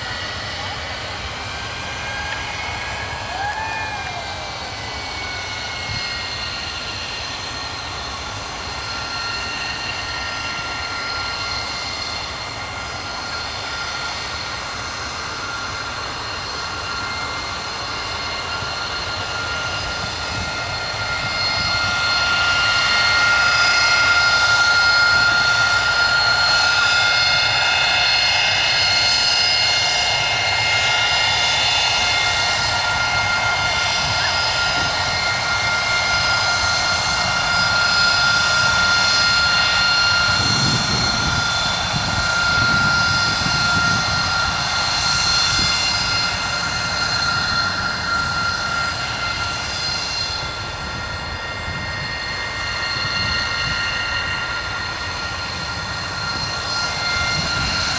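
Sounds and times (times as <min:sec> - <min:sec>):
jet engine whine: 0:00.0 - 0:57.9.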